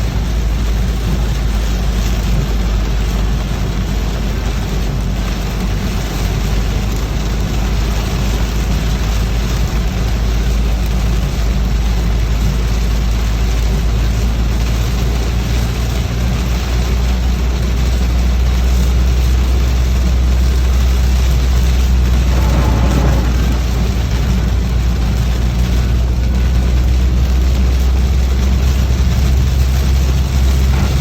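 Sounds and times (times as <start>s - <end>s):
engine and road rumble: 0.0s - 31.0s
rain and wet tyres hissing: 0.0s - 31.0s.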